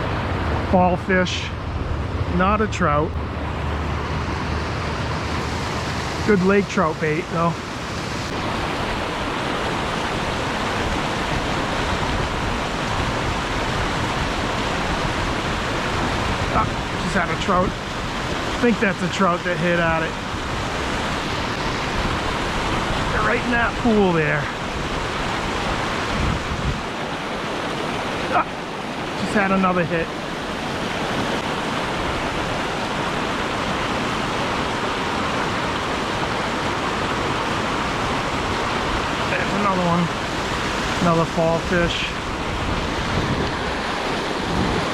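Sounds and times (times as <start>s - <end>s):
brook water flowing: 0.0s - 44.9s.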